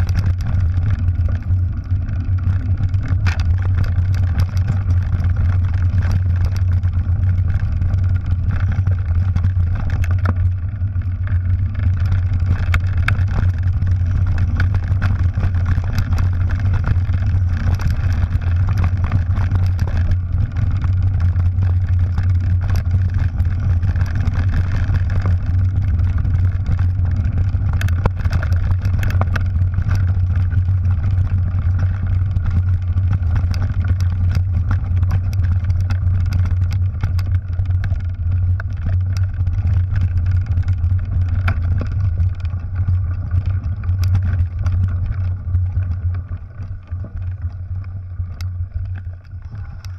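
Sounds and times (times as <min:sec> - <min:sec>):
bike rattling over stones: 0:00.0 - 0:49.9
wind and vibration rumble: 0:00.0 - 0:49.9.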